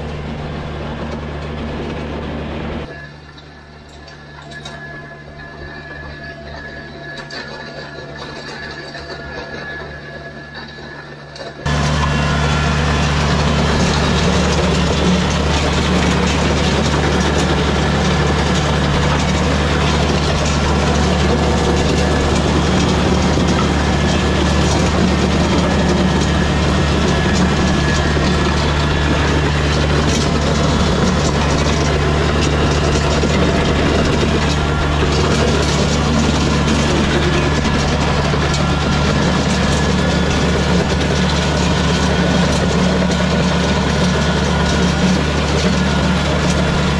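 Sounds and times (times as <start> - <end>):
diesel tractor engine under load: 0.0 - 46.9.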